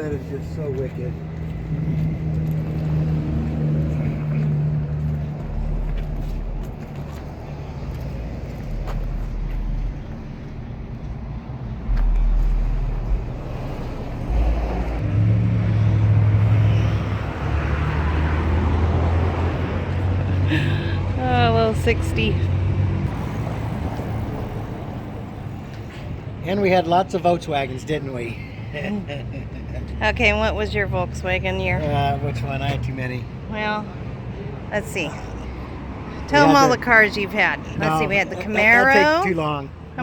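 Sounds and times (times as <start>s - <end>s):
car engines rumbling past: 0.0s - 40.0s.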